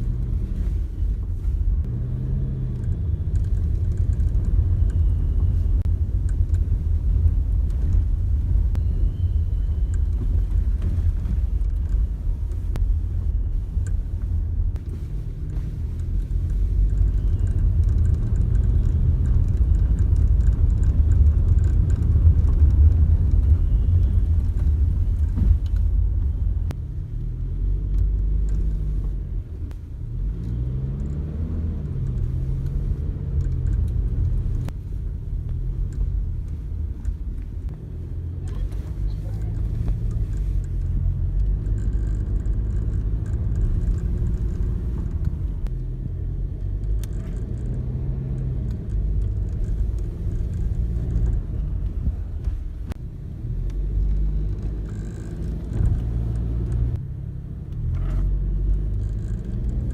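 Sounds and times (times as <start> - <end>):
car cabin rumble: 0.0 - 59.9
light rattling clicks from dashboard: 2.6 - 8.9, 9.8 - 53.0, 53.6 - 57.0, 57.6 - 59.9.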